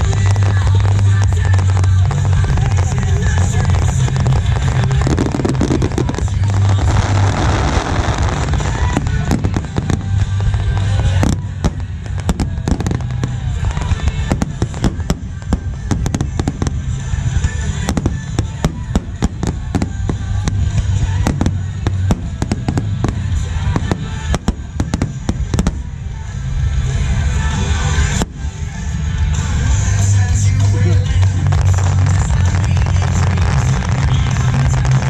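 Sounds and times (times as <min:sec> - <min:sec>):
fireworks bursting: 0:00.0 - 0:35.0
low rumble: 0:00.0 - 0:35.0.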